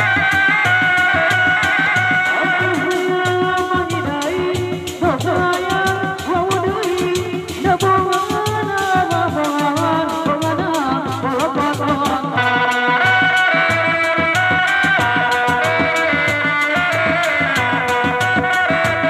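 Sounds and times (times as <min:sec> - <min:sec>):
drum ensemble playing fast beat: 0:00.0 - 0:19.0.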